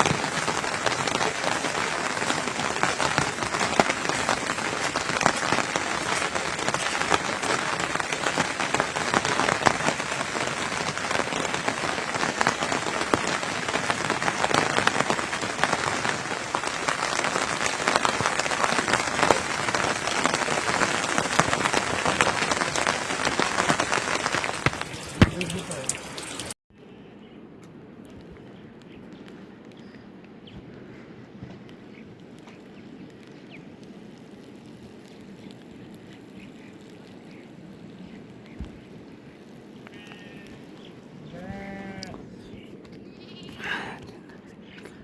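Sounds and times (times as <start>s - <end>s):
rain falling: 0.0s - 26.6s, 31.4s - 45.0s.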